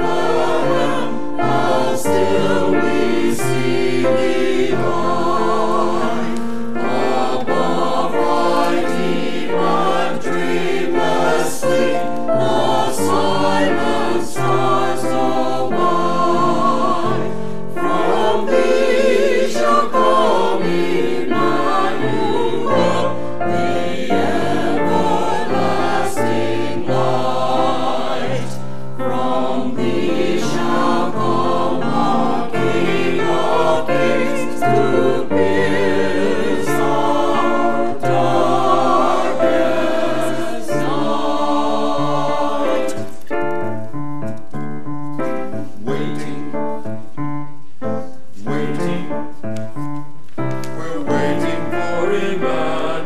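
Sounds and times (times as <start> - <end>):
mixed choir singing: 0.0 - 43.9, 45.2 - 47.0, 48.3 - 49.6, 50.4 - 53.0.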